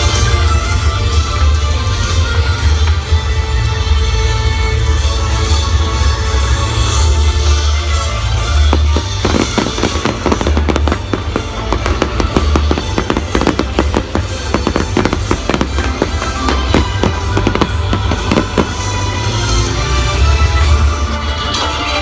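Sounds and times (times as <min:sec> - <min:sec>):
fireworks bangs and crackles: 0:00.0 - 0:21.0
loud orchestral music: 0:00.0 - 0:22.0.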